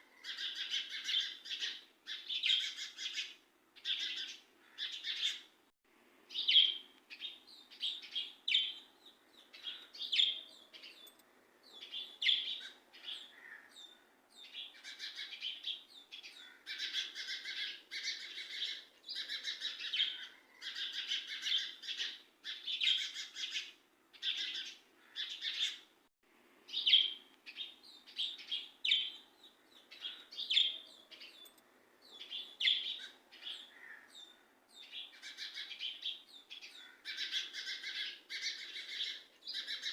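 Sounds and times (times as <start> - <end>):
small birds chirping: 0.0 - 5.7, 6.3 - 26.0, 26.6 - 39.9.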